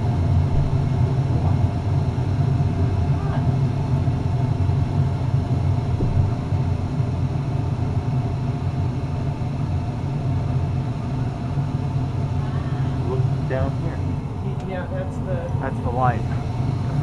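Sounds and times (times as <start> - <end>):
gas furnace rumbling: 0.0 - 17.0.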